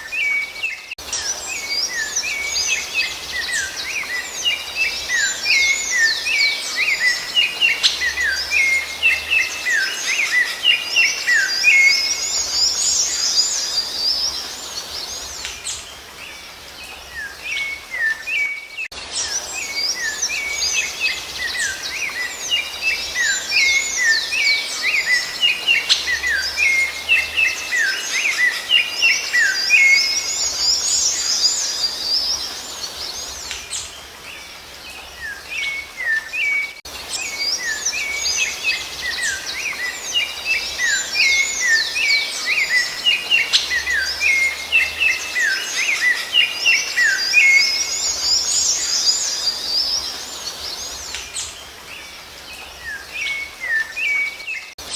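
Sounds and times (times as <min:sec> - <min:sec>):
thrush song whistles and chirps: 0:00.0 - 0:54.9.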